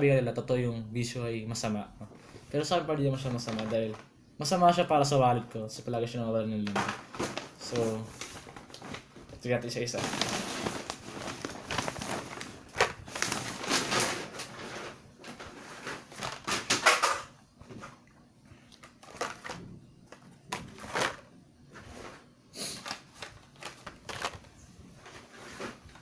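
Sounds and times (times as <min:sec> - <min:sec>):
rustling of items: 0:02.0 - 0:04.8, 0:06.5 - 0:26.0.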